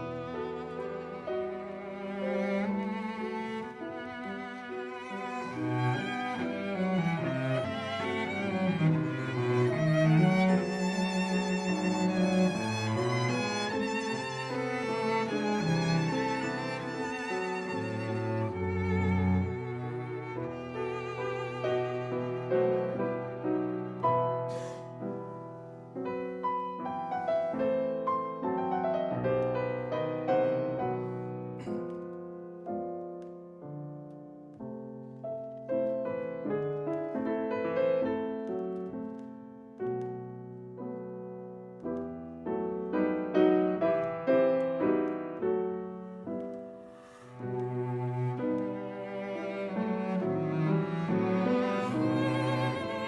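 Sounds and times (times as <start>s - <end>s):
solo piano music: 0.0s - 53.0s.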